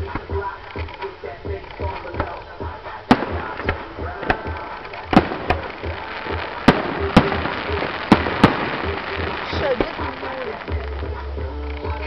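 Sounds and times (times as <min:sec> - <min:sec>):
fireworks bangs: 0:00.0 - 0:12.0
steady low beat: 0:00.0 - 0:12.0.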